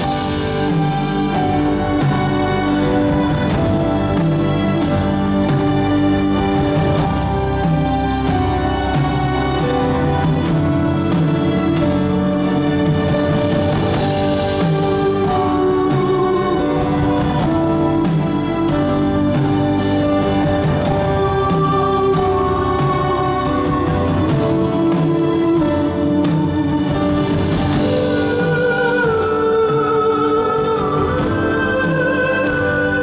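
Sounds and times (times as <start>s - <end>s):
acoustic guitar: 0.0s - 33.0s
live band playing slow ballad: 0.0s - 33.0s.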